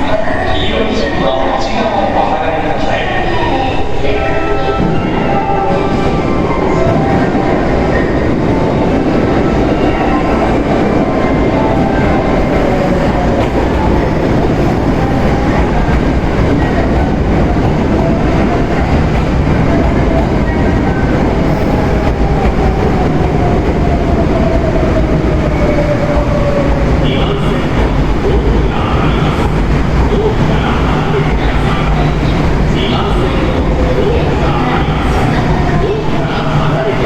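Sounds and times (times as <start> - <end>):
electric train rumbling: 0.0 - 37.0.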